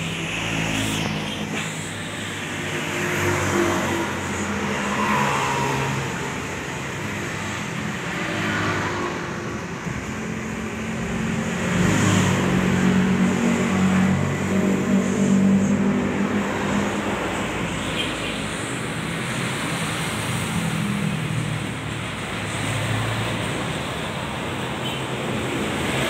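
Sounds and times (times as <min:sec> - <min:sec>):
vehicle engines passing: 0:00.0 - 0:26.0.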